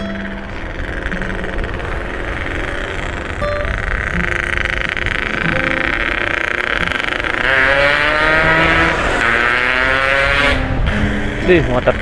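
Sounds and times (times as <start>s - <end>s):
motorcycle accelerating: 0.0s - 12.0s
wind and road noise: 0.0s - 12.0s.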